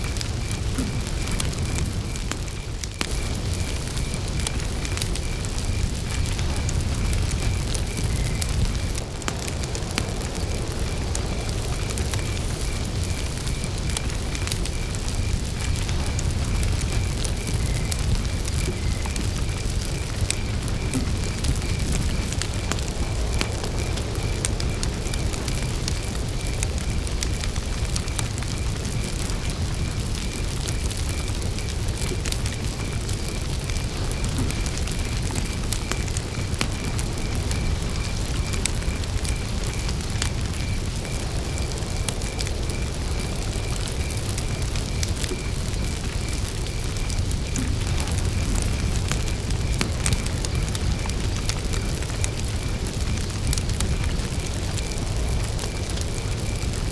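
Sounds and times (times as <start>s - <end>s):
campfire crackling: 0.0s - 56.9s
cricket chirping: 0.0s - 56.9s.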